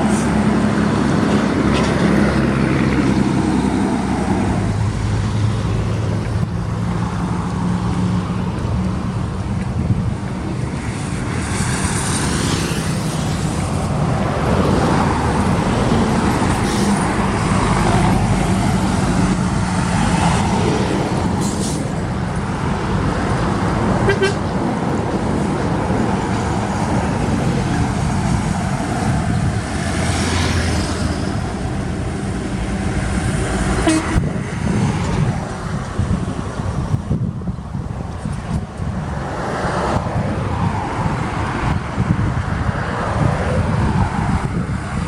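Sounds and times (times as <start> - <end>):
engine running: 0.0 - 37.0
tyre and traffic rumble: 0.0 - 45.0.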